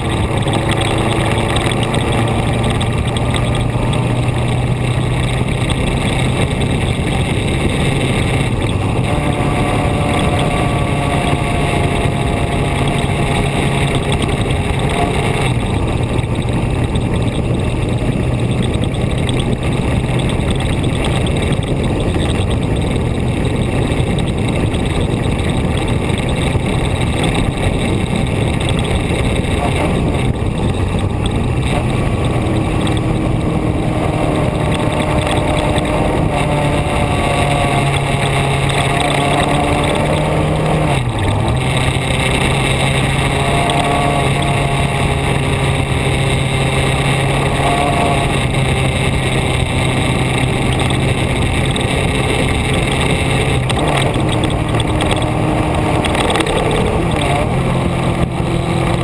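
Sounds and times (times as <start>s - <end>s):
vehicle engine: 0.0s - 59.0s
wind and road rush: 0.0s - 59.0s.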